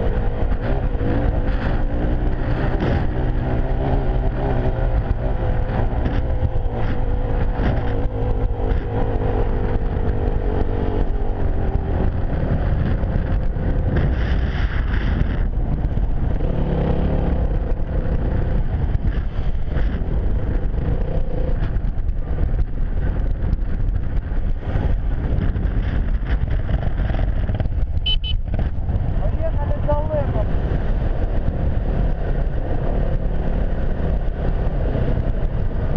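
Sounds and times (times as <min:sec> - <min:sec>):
motorcycle engine running: 0:00.0 - 0:35.9
wind rumble: 0:00.0 - 0:35.9.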